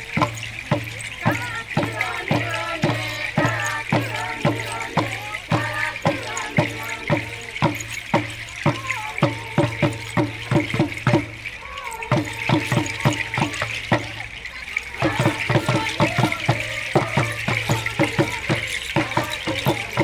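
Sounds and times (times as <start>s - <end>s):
drums beaten in steady rhythm: 0.0s - 20.0s
group singing or chanting: 0.0s - 20.0s.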